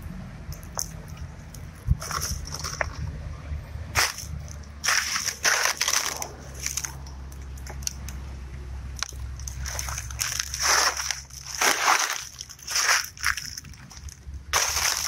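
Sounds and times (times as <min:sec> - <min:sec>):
dry leaves crunching underfoot: 0:00.7 - 0:03.1, 0:03.9 - 0:07.8, 0:09.1 - 0:15.0.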